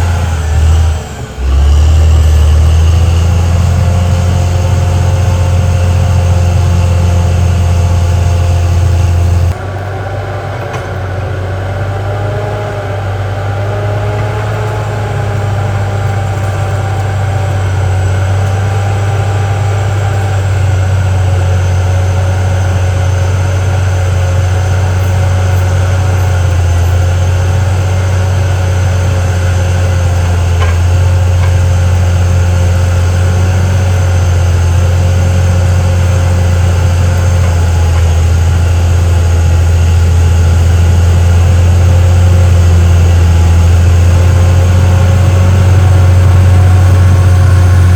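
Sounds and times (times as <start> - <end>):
bulldozer diesel engine humming: 0.0 - 47.9.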